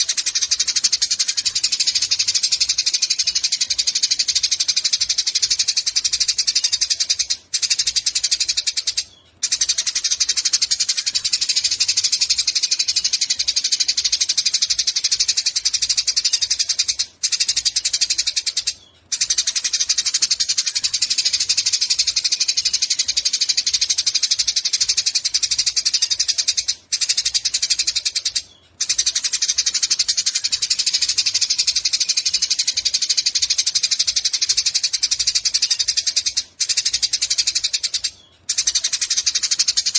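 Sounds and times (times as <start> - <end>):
sparrow chirping rapidly: 0.0 - 39.9.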